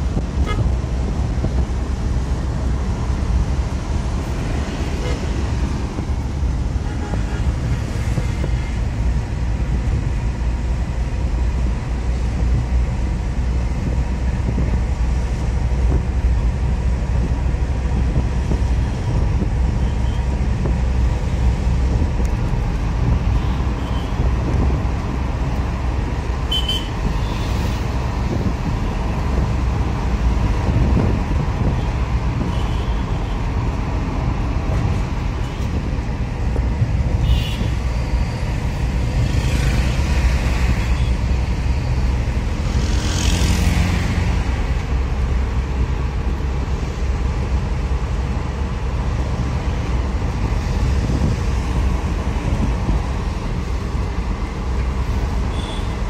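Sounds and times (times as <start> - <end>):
surrounding traffic: 0.0 - 56.0
vehicle engine and tyres rumbling: 0.0 - 56.0.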